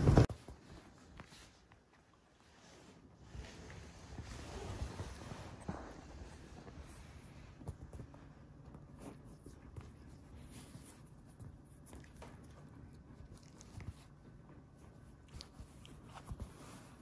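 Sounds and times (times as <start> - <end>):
puppy rustling on leather couch: 0.0 - 17.0.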